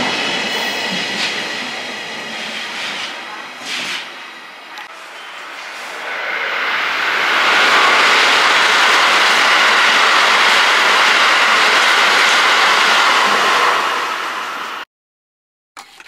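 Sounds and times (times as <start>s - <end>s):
train passing at speed: 0.0s - 14.8s.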